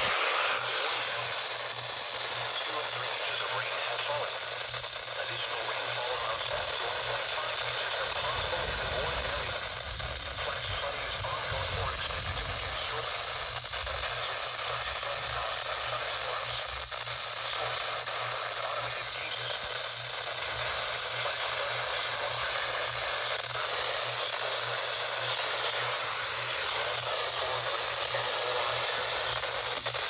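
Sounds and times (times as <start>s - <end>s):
radio static hiss: 0.0s - 30.0s.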